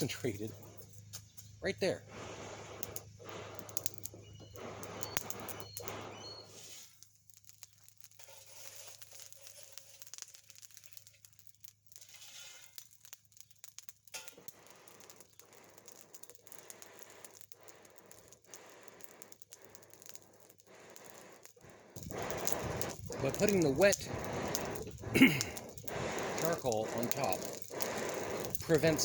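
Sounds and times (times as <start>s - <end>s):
charcoal fire crackling: 0.0s - 29.0s.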